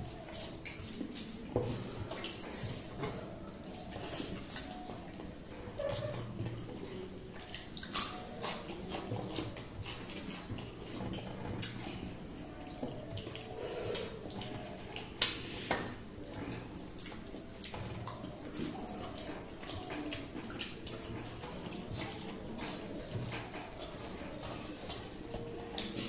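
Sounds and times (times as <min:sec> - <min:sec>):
chewing: 0:00.0 - 0:26.0
fingers mixing food: 0:00.0 - 0:26.0.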